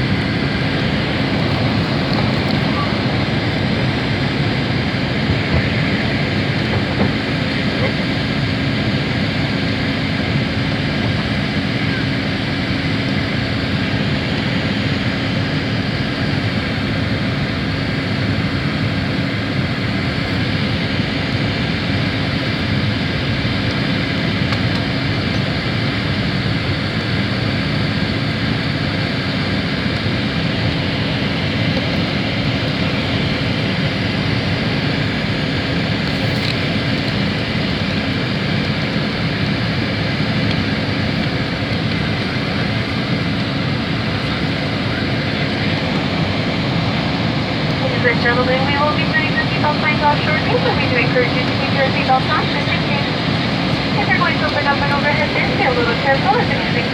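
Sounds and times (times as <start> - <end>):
jet engines in cabin: 0.0 - 56.9.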